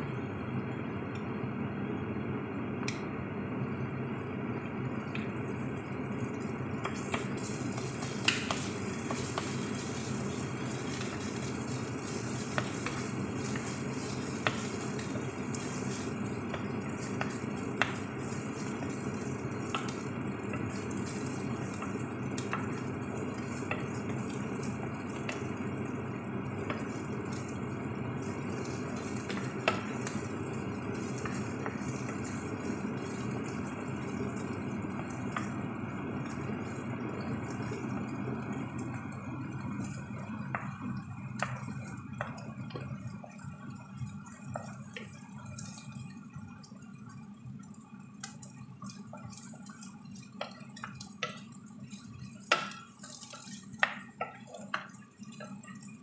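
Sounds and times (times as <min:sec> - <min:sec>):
aromatics sizzling in oil: 0:03.0 - 0:56.0.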